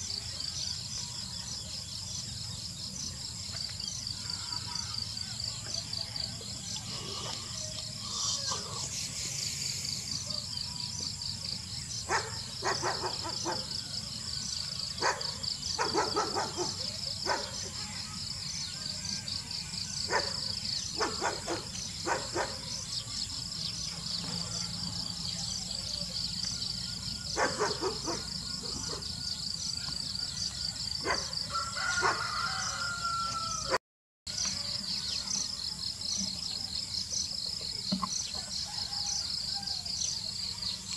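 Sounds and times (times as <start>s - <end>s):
crickets chirring: 0.0s - 40.9s.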